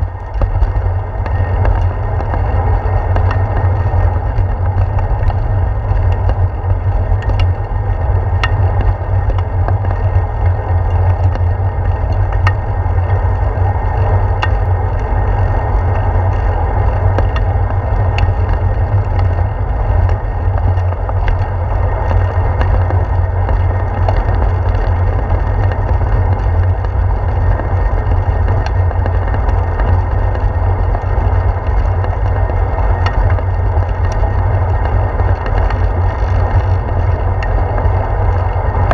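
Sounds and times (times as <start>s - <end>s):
bicycle road vibration: 0.0s - 38.9s
sharp ticks from bumps: 0.0s - 38.9s
wind rumble: 0.0s - 38.9s.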